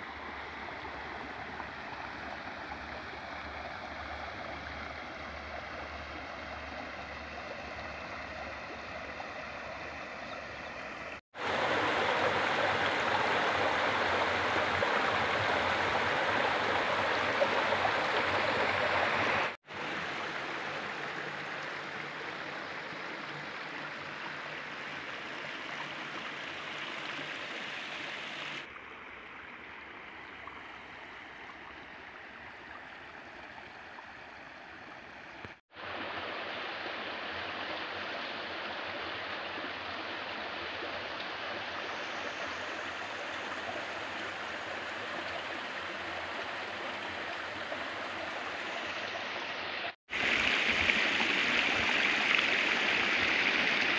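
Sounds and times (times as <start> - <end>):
shallow stream flowing: 0.0 - 53.9
water rushing from culvert: 0.0 - 53.9.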